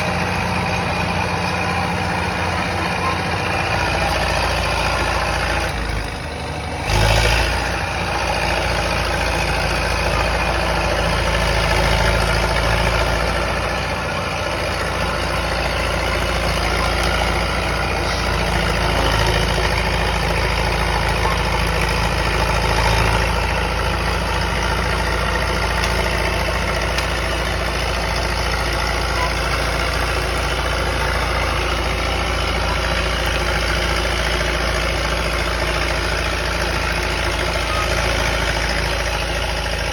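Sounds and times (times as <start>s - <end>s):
dozer diesel engine running: 0.0s - 39.9s.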